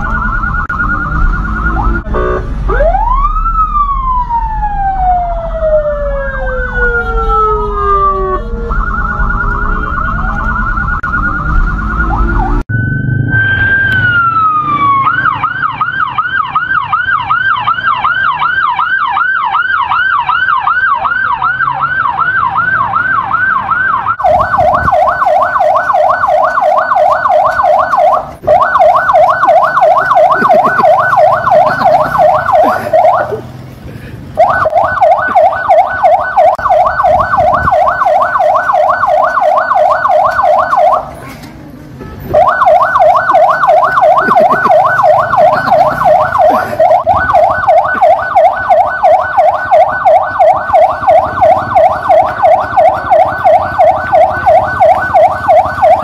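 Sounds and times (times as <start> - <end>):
police car sirens: 0.0 - 56.0.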